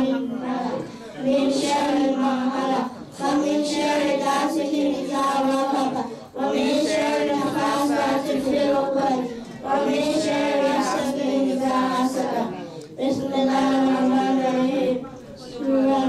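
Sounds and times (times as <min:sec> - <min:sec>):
girls chanting together: 0:00.0 - 0:16.0.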